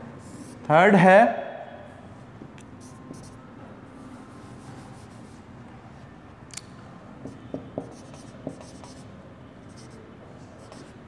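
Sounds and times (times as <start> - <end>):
marker on whiteboard: 0.0 - 0.7, 2.4 - 11.0.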